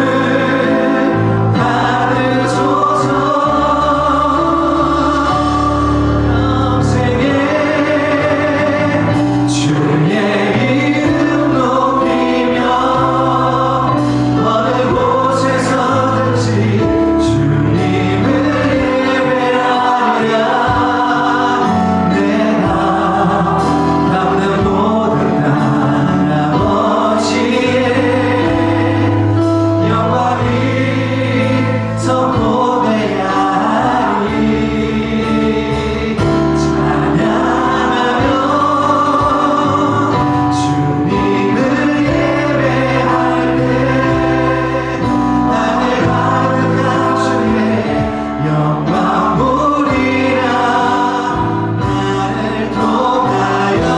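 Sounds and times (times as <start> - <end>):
bass: 0.0 - 53.9
congregation singing: 0.0 - 53.9
keyboard: 0.0 - 53.9.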